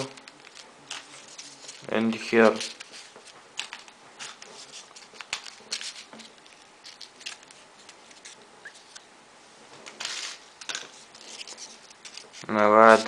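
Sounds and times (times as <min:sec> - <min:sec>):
paper clicks and rustles: 0:00.0 - 0:09.1, 0:09.9 - 0:12.6.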